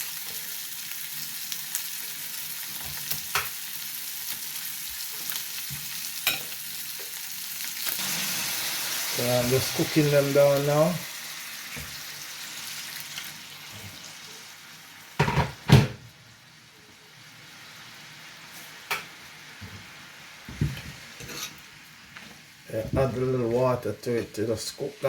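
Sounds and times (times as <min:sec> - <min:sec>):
food sizzling in oil: 0:00.0 - 0:22.7.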